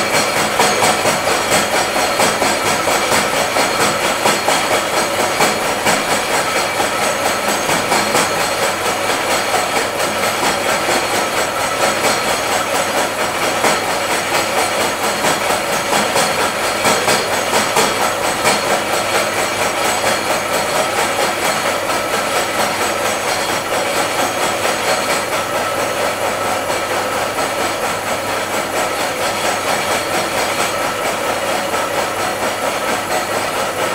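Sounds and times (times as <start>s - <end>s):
milling machine cutting metal: 0.0s - 33.9s.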